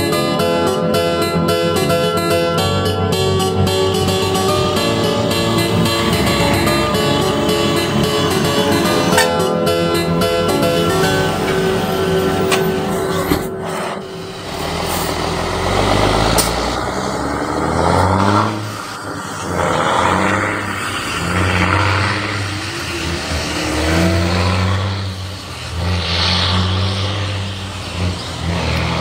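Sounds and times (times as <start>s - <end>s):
diesel truck engine surging: 0.0s - 29.0s.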